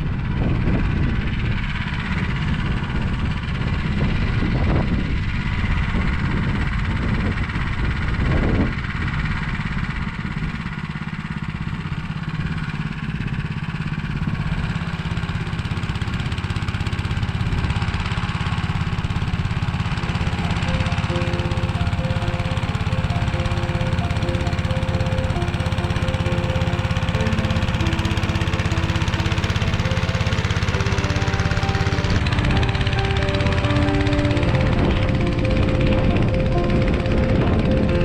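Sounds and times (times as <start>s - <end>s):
walk-behind tractor engine running: 0.1s - 38.0s
rotary tiller working soil: 0.3s - 38.0s.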